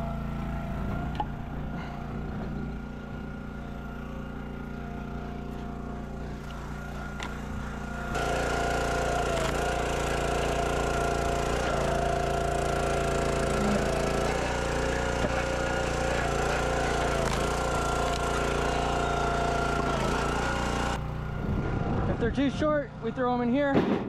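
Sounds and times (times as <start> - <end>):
small gas engine running: 0.0 - 23.7.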